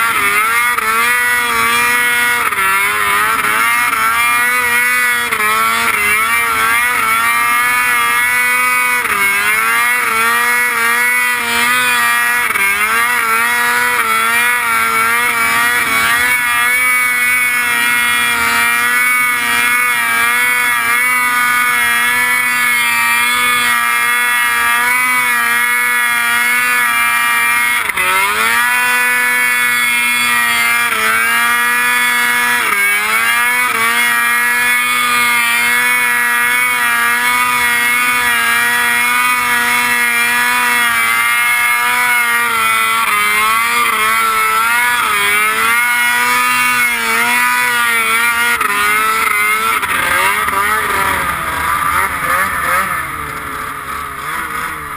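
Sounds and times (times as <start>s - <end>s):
snowmobile engine revving: 0.0s - 54.9s.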